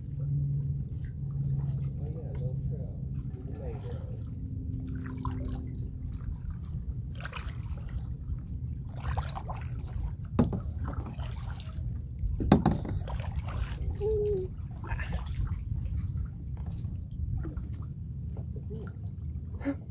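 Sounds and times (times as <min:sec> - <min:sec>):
paddle strokes in water: 0:00.0 - 0:19.8
low rumble: 0:00.0 - 0:19.9
splashes: 0:00.0 - 0:19.9.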